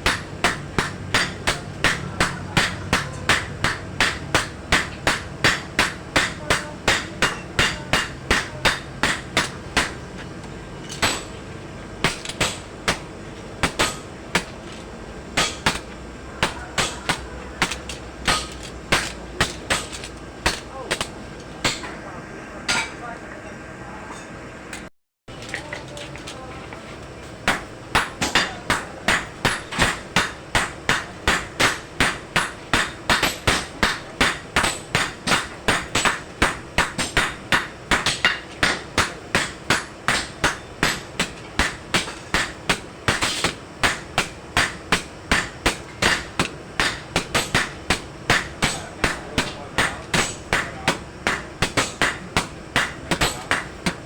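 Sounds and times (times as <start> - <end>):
hammer striking metal on anvil: 0.0 - 10.1, 10.8 - 11.4, 12.0 - 14.6, 15.4 - 22.0, 27.4 - 54.0.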